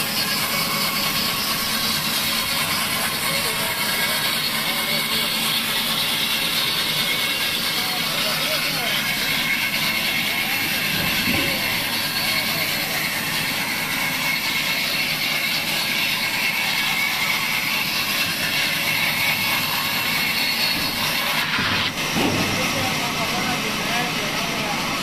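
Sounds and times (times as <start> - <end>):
band saw ripping timber: 0.0 - 24.6.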